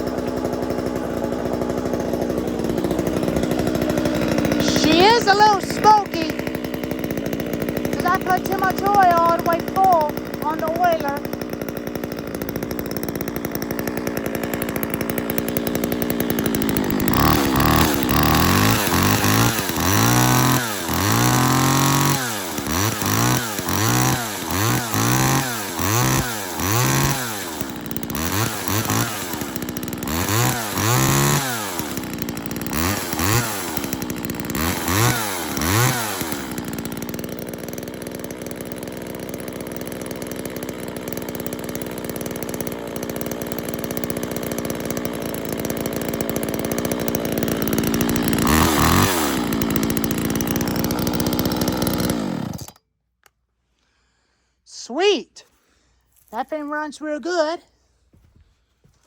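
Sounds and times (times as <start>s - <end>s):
chainsaw idling and revving: 0.0s - 52.9s, 53.7s - 58.2s.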